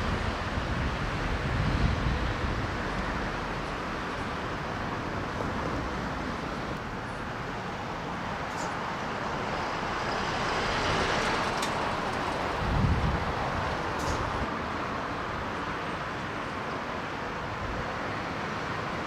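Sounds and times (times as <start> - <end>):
distant city traffic din: 0.0 - 19.0.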